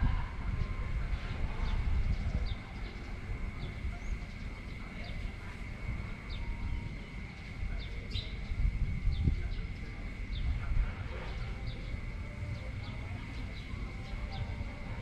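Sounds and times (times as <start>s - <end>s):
high insect drone: 0.0s - 15.0s
wind gusting against microphone: 0.0s - 15.0s.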